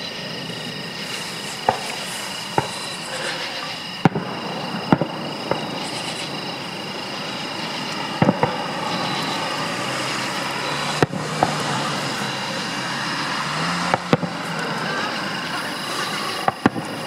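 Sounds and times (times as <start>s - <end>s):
distant firework shells bursting: 0.5s - 12.6s, 13.9s - 17.0s.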